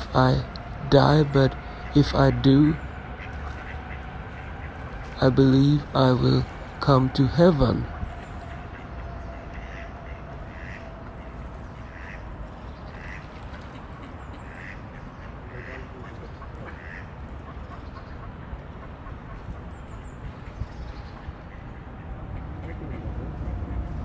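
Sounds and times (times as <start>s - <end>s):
duck quacking: 0.0s - 12.3s, 12.9s - 19.4s, 21.5s - 24.0s
low background rumble: 0.0s - 24.0s.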